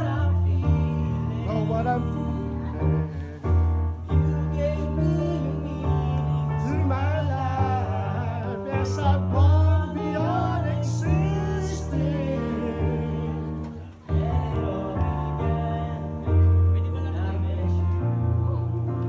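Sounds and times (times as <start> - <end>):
instrumental backing music: 0.0 - 19.0
man singing into a microphone: 0.0 - 19.0.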